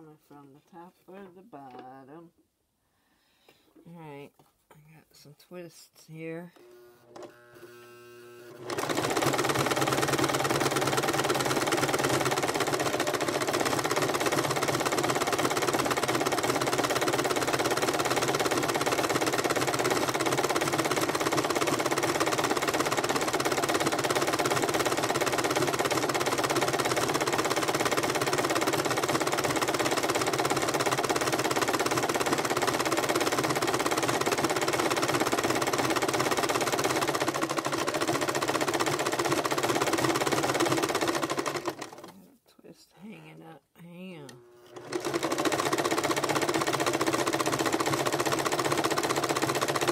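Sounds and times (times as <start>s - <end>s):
electric sewing machine running: 6.6s - 42.2s, 44.4s - 49.9s.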